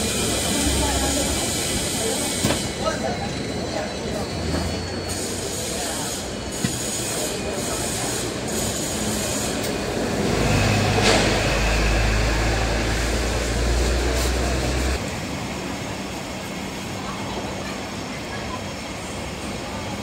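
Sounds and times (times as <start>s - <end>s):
tram pulling away: 0.0s - 20.0s.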